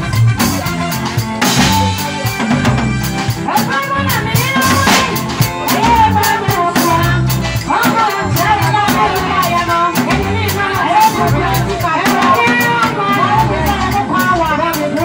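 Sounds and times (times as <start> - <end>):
drum kit beat: 0.0 - 15.0
electronic keyboard playing: 0.0 - 15.0.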